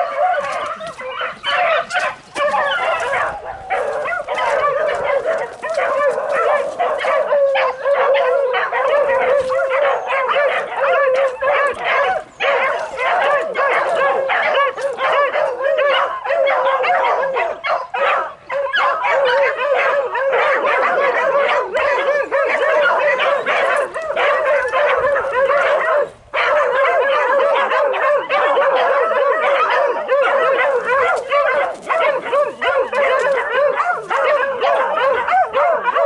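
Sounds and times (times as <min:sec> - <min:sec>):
dogs baying: 0:00.0 - 0:36.0.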